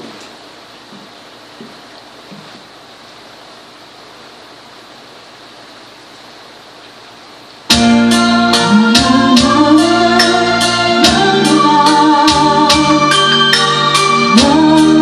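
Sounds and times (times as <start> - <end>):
room background hiss: 0.0 - 15.0.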